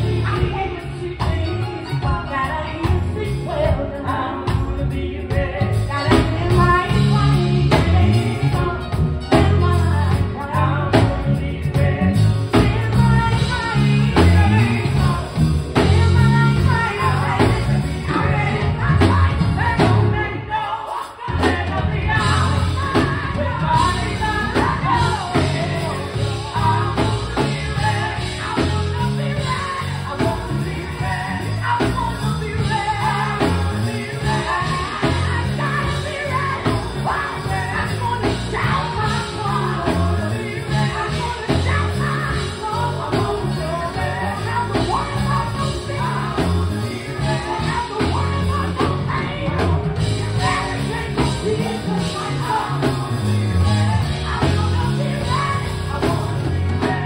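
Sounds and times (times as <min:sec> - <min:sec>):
bass guitar: 0:00.0 - 0:57.0
drum kit: 0:00.0 - 0:57.0
keyboard: 0:00.0 - 0:57.0
women singing in harmony: 0:00.0 - 0:57.0.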